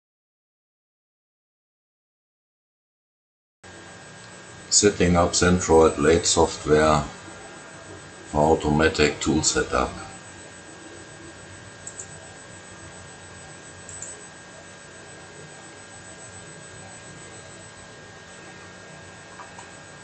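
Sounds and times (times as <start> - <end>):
background hiss and hum: 3.7 - 20.0
faint high whine: 3.7 - 20.0.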